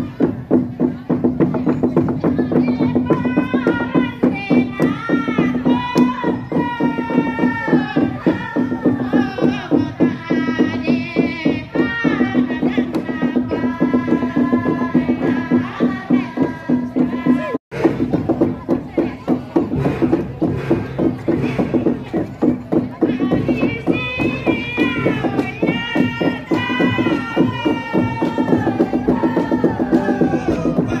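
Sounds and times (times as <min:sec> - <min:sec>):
quick rhythmic percussion: 0:00.0 - 0:31.0
group chanting a melodious song: 0:02.6 - 0:22.2, 0:23.2 - 0:31.0.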